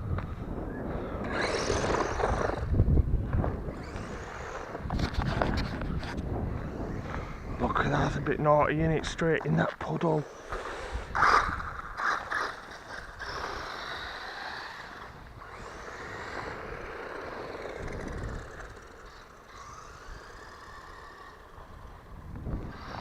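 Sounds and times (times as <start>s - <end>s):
electric motor whining: 0.1s - 8.4s, 10.3s - 23.0s.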